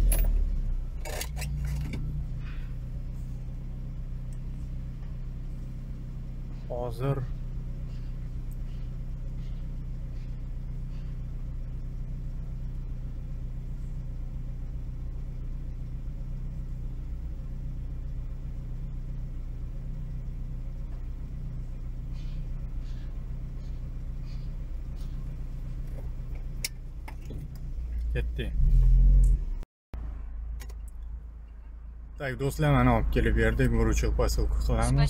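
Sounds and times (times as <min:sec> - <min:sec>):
car cabin low hum: 0:00.0 - 0:35.0.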